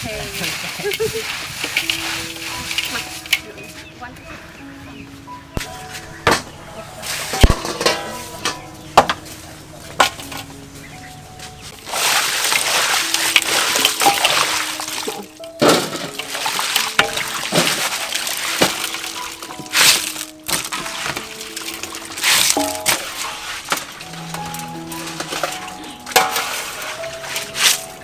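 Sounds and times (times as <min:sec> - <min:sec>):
water sloshing in metal basin: 0:00.0 - 0:03.9, 0:05.6 - 0:28.0
background music: 0:00.0 - 0:28.0.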